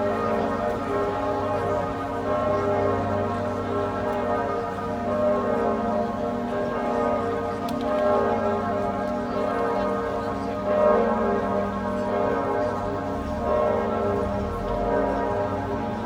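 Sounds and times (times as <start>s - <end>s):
bells ringing in a peal: 0.0s - 16.0s.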